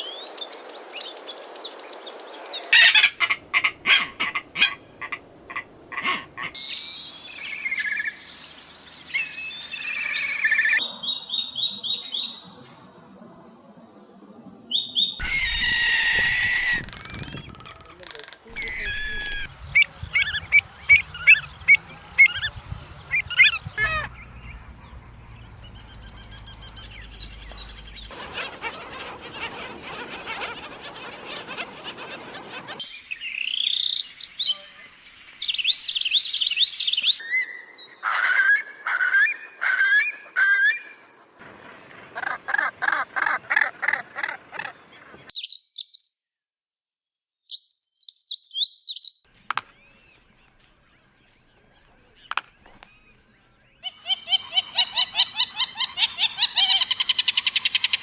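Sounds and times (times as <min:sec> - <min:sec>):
birds calling and singing: 0:05.9 - 0:12.9, 0:14.7 - 0:42.0, 0:43.0 - 0:46.3, 0:47.4 - 0:58.0.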